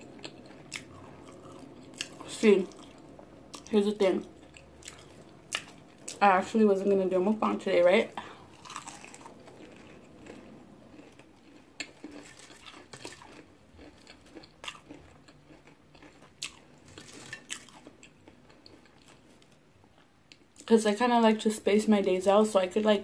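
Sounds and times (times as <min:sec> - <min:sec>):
chewing fried onion ring: 0:00.0 - 0:20.7.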